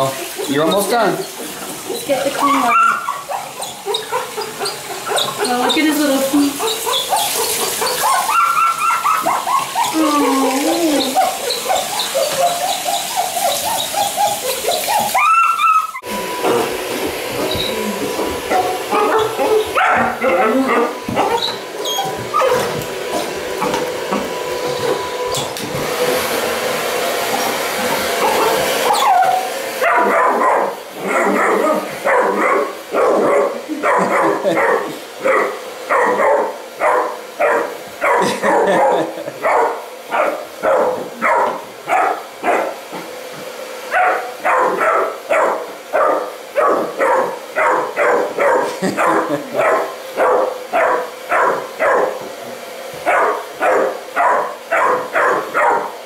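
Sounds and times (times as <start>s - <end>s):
hair dryer blowing: 0.0s - 56.0s
puppy barking: 2.4s - 5.8s, 6.5s - 16.7s, 17.3s - 23.8s, 27.8s - 42.8s, 43.9s - 52.3s, 53.0s - 56.0s.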